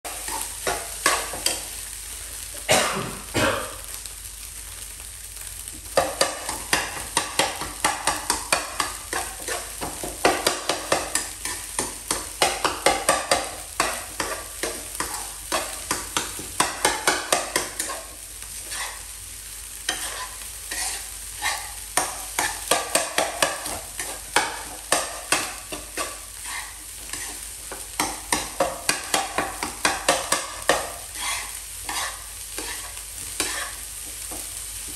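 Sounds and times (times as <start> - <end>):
food sizzling: 0.0 - 34.9
spatula scraping a pan: 0.1 - 2.5, 6.0 - 19.2, 19.8 - 34.9.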